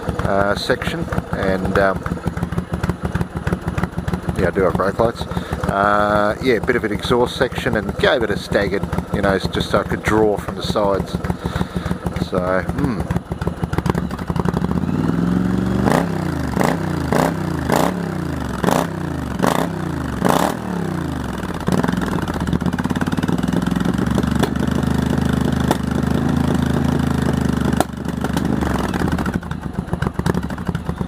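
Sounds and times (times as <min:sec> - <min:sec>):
motorcycle engine idling: 0:00.0 - 0:31.0
motorcycle engine revving: 0:00.0 - 0:31.0.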